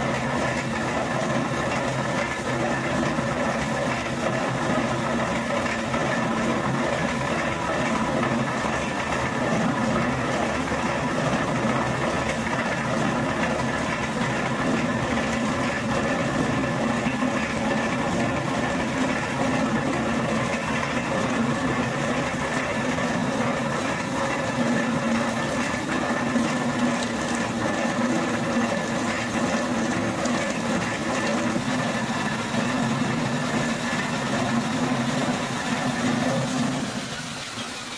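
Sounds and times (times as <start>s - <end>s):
oil mill mechanical hum: 0.0s - 37.9s.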